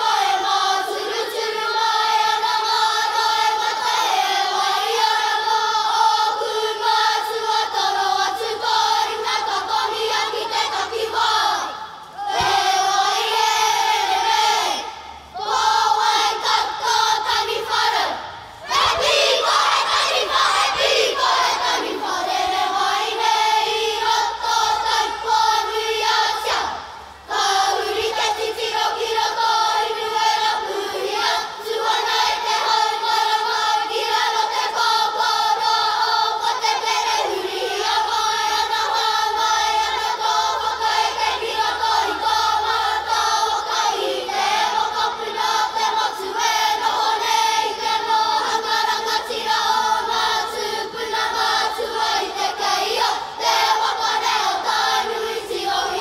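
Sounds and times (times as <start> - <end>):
children singing in unison: 0.0 - 56.0.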